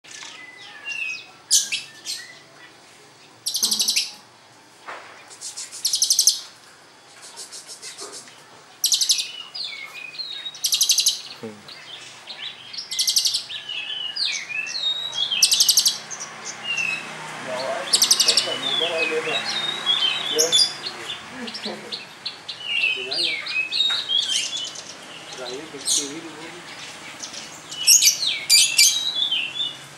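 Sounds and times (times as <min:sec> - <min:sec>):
bird trilled chirping: 0:03.4 - 0:04.2, 0:05.3 - 0:06.5, 0:07.2 - 0:29.9.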